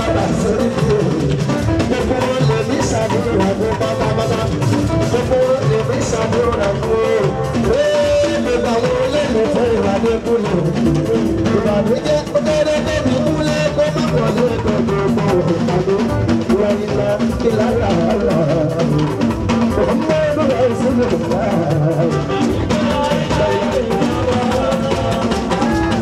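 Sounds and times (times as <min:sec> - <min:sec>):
band music with dense drumming: 0:00.0 - 0:26.0
person singing: 0:00.0 - 0:26.0.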